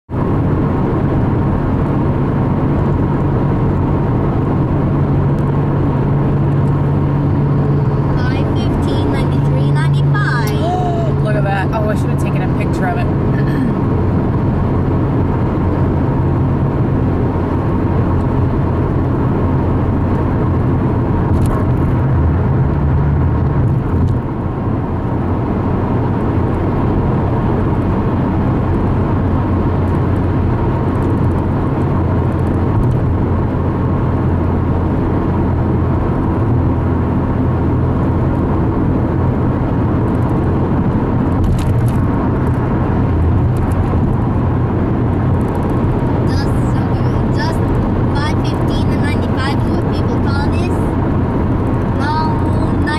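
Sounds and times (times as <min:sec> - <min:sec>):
car engine and tyres rumbling: 0:00.1 - 0:52.9.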